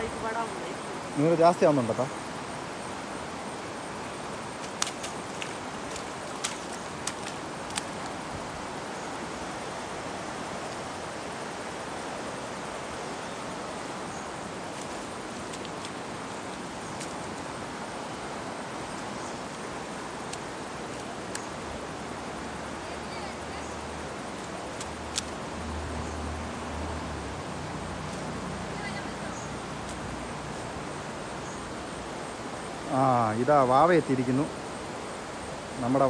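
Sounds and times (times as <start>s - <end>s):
river rushing in flood: 0.0s - 36.0s.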